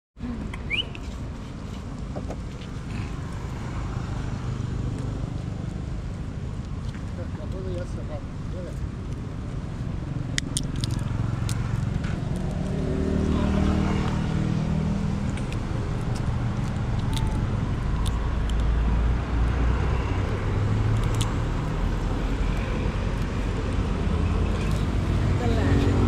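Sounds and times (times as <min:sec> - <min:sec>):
vehicle engine rumbling: 0:00.2 - 0:26.0.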